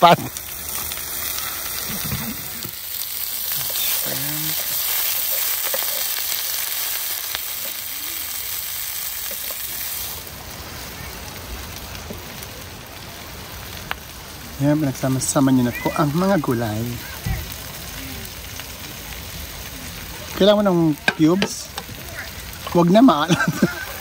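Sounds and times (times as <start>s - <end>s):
shrimp sizzling in oil: 0.0s - 24.0s.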